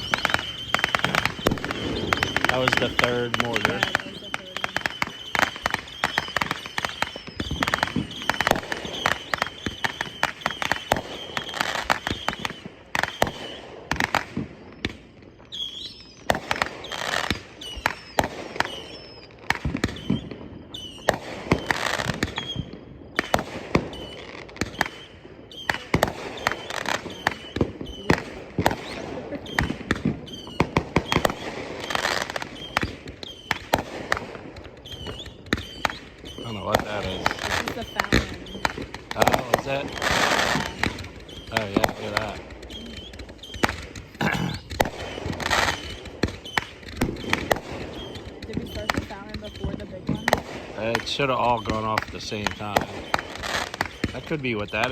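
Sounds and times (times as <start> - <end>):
firework whistle: 0.0 - 54.9
fireworks cracking and popping: 0.0 - 54.9.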